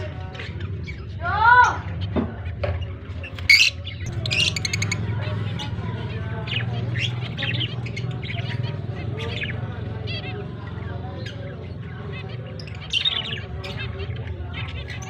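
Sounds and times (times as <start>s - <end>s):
lovebirds chirping and chattering: 0.0s - 15.0s.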